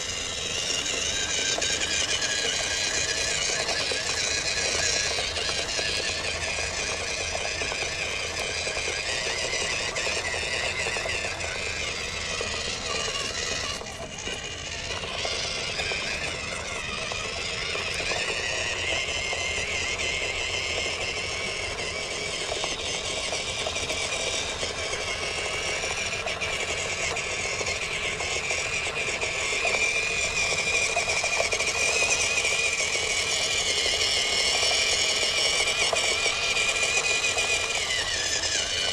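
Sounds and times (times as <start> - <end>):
toy truck motor whining: 0.0 - 38.9.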